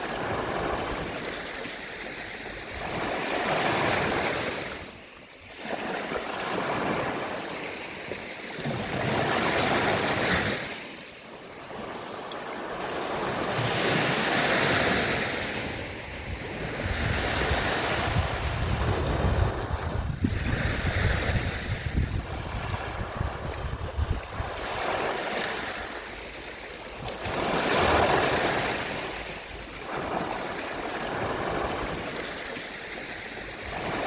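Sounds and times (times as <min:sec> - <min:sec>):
sea waves washing on shore: 0:00.0 - 0:34.0.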